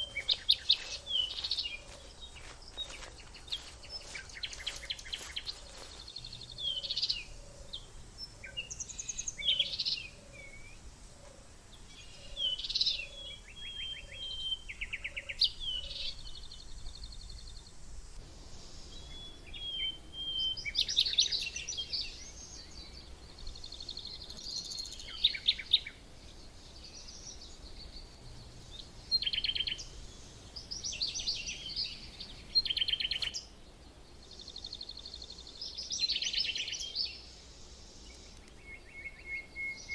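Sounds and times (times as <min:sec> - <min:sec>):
faint outdoor background hiss: 0:00.0 - 0:39.9
wild birds singing and calling: 0:00.0 - 0:39.9.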